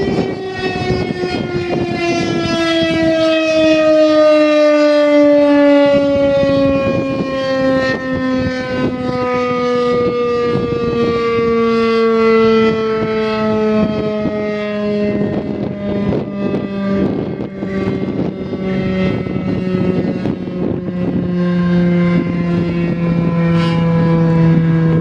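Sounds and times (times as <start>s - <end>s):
warning siren two-note tone: 0.0s - 25.0s
wind buffeting microphone: 0.0s - 25.0s.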